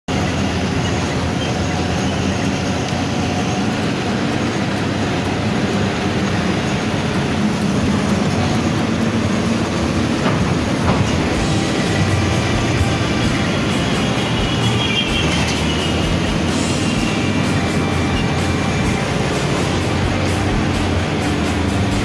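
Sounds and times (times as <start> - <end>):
bus engine and road noise: 0.0 - 22.0.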